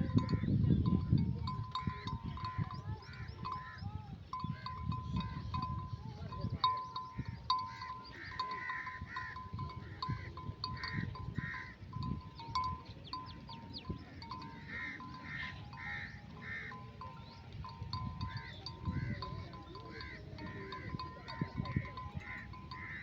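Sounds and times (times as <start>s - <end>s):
sheep bells clanking: 0.0s - 23.0s.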